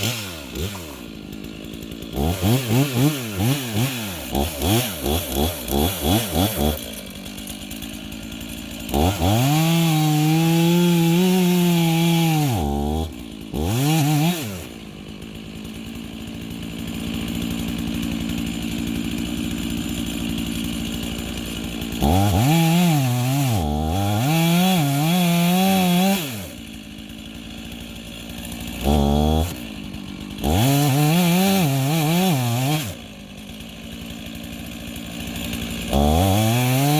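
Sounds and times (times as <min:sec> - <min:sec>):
chainsaw idling and revving: 0:00.0 - 0:36.9.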